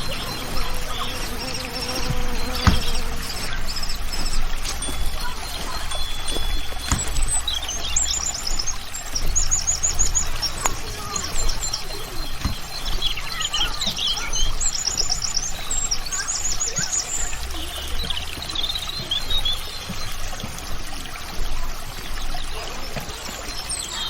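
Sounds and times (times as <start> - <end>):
songbirds chirping: 0.0 - 24.0
water trickling: 0.0 - 24.0.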